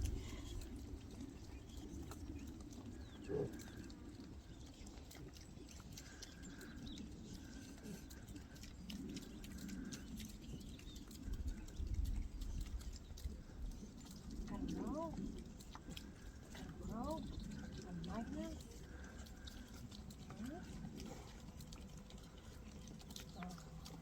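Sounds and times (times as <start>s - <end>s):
chewing clicks: 0.0s - 24.0s
pig eating with wet smacking: 0.0s - 24.0s.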